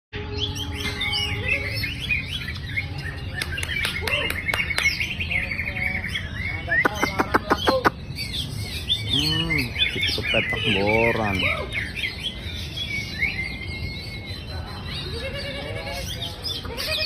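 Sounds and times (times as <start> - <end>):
songbirds singing: 0.2 - 17.0.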